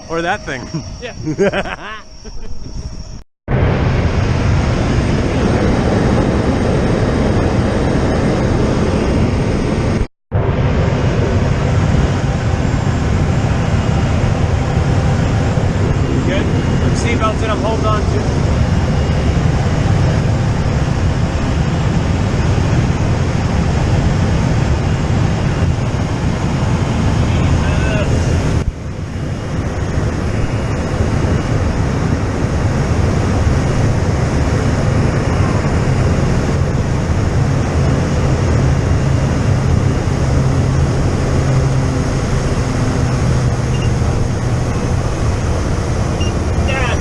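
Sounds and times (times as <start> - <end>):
turboprop engine drone: 0.0 - 47.0.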